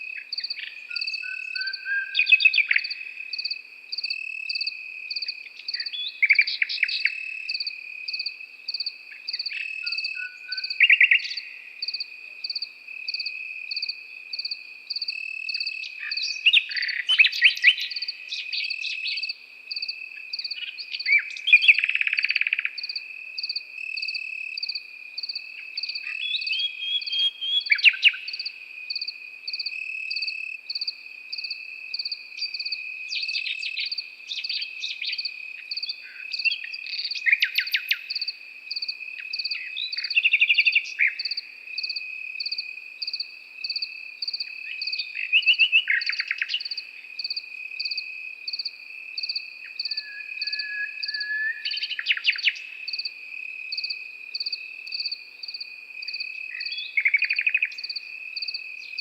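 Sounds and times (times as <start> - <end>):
insect chirping in pulses: 0.0 - 59.0
nightingale singing: 0.0 - 59.0
cricket trilling: 0.1 - 59.0.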